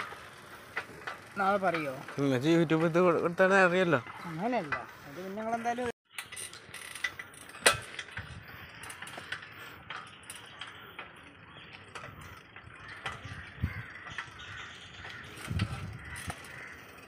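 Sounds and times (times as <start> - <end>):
bicycle chain and frame clicking: 0.0 - 17.0.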